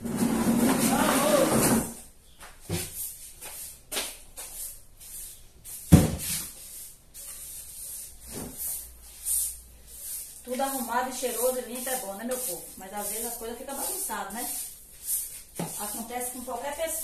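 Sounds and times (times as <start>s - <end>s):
broom sweeping concrete floor: 0.0s - 17.0s.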